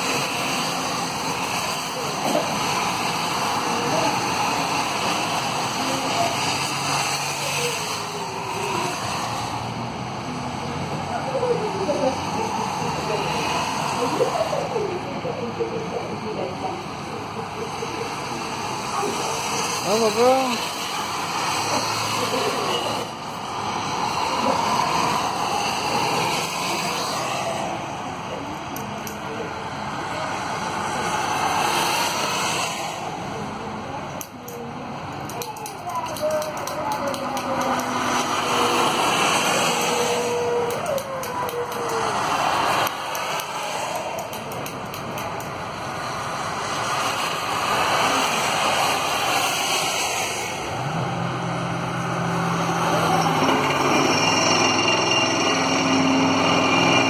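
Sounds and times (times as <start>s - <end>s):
tyres hissing on wet road: 0.0s - 57.0s
vehicle engines: 0.0s - 57.0s.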